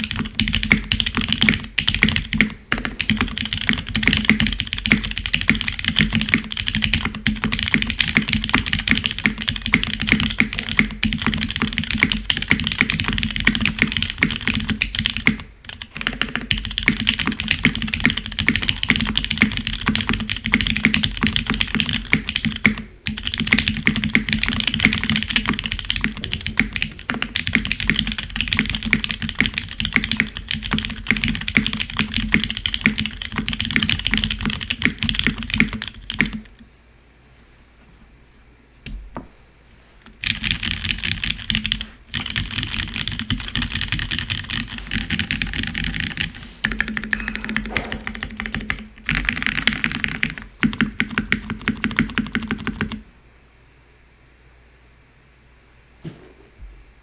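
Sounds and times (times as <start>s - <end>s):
fast mechanical keyboard typing: 0.0s - 36.6s, 40.2s - 53.0s.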